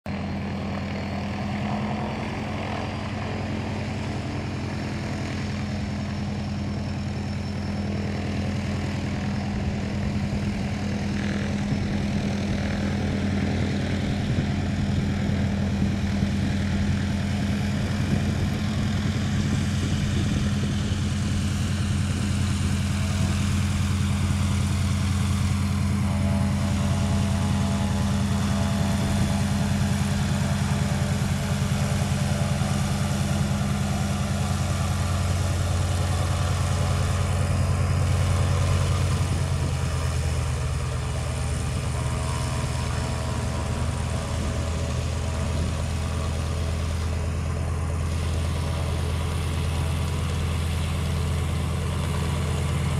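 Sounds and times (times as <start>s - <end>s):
radial aircraft engine droning: 0.1s - 52.9s.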